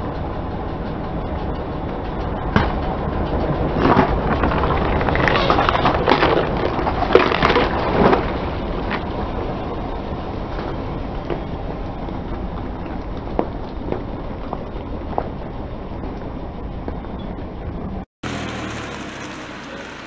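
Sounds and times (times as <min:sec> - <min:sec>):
car running: 0:00.0 - 0:20.0.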